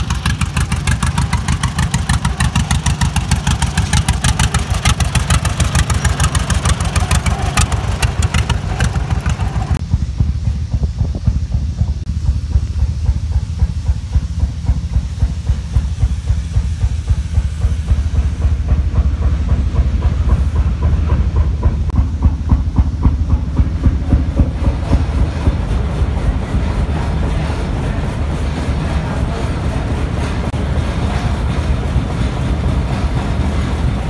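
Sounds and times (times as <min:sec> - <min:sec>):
antique engine exhaust beat: 0:00.0 - 0:34.0
mechanical clatter with rapid ticking: 0:00.0 - 0:34.0
steam hiss: 0:00.0 - 0:34.0.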